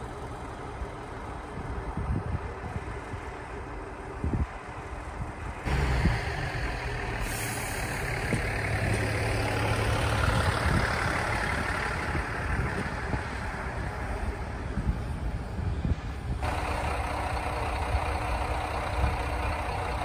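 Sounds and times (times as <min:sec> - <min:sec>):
diesel railcar engine drone: 0:00.0 - 0:20.0
train wheel and rail noise: 0:00.0 - 0:20.0.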